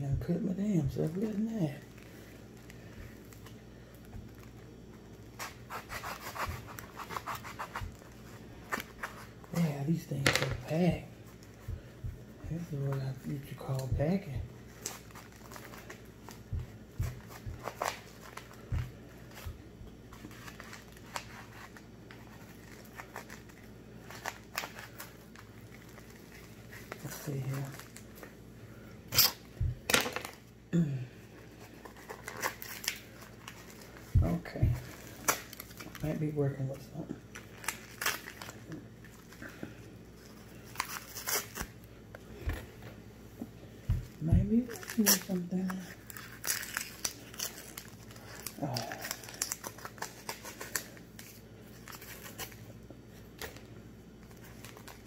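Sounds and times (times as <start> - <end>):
paper packaging crinkling: 0.4 - 11.7, 12.6 - 28.4, 31.5 - 41.9, 43.9 - 55.0.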